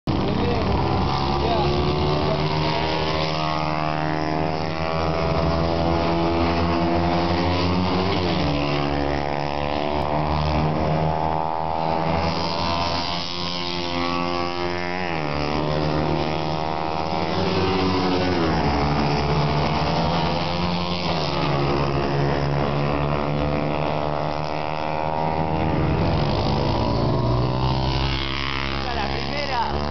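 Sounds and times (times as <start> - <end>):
racing motorcycle engines revving: 0.0 - 29.9.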